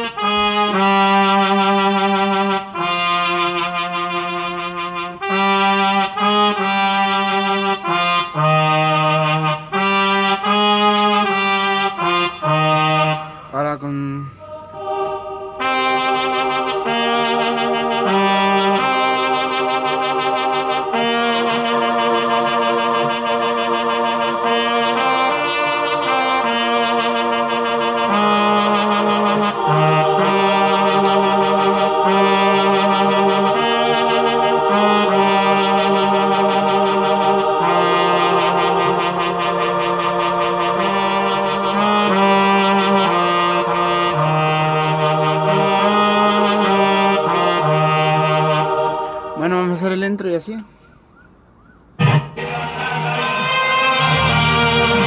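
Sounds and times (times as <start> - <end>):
keyboard playing brass hymn melody: 0.0 - 55.0.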